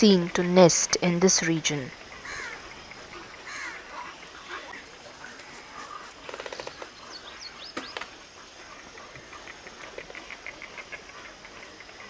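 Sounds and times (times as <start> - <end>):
fast rattling bird call: 1.3 - 12.0.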